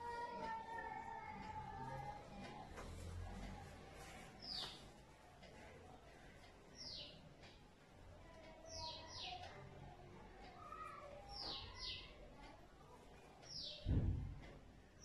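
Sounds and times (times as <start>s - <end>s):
small bird chirping faintly: 0.0s - 13.9s.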